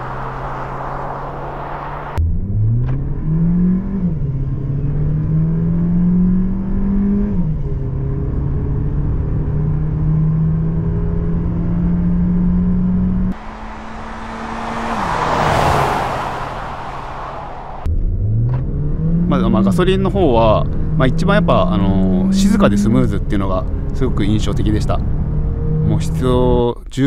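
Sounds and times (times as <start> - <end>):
car engine at full throttle: 0.0 - 26.5.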